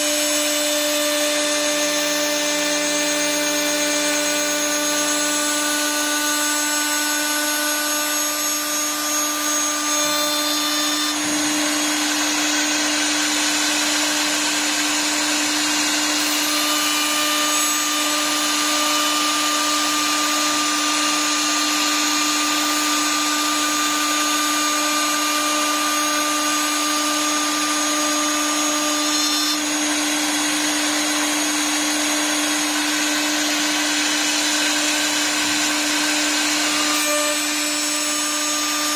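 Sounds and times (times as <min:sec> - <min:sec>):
cutter hissing through wood: 0:00.0 - 0:38.9
milling spindle motor whine: 0:00.0 - 0:38.9.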